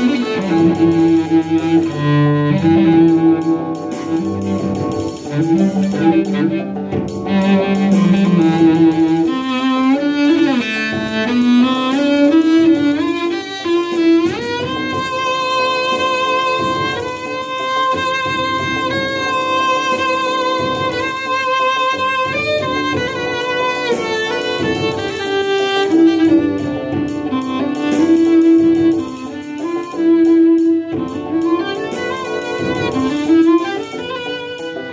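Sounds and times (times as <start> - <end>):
bowed cello: 0.0 - 34.9
produced beat with guitar: 0.0 - 34.9.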